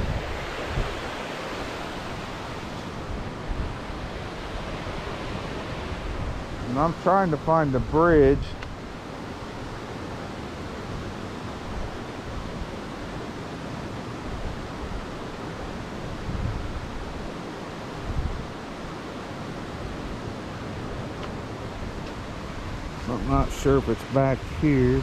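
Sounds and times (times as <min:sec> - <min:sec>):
steady wind: 0:00.0 - 0:25.0
wind gusts buffeting microphone: 0:00.0 - 0:25.0.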